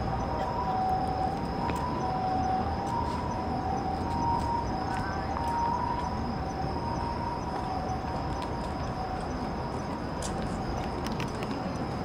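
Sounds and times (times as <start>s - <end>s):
ambulance siren two-tone: 0.0s - 9.8s
steady background noise: 0.0s - 12.0s.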